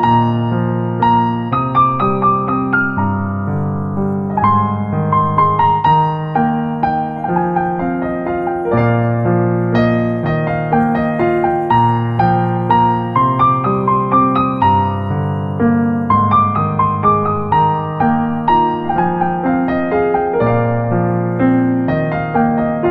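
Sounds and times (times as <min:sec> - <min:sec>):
gentle piano music: 0:00.0 - 0:22.9.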